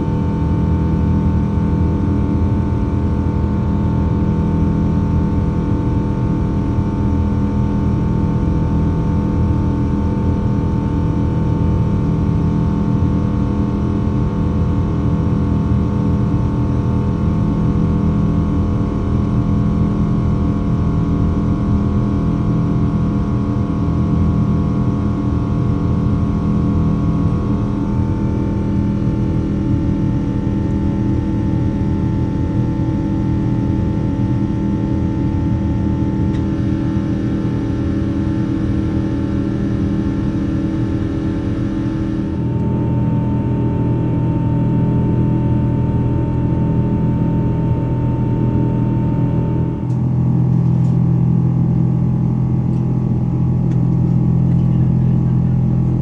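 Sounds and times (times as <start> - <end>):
aircraft cabin engine drone: 0.0 - 56.0
fixed humming tones: 0.0 - 56.0.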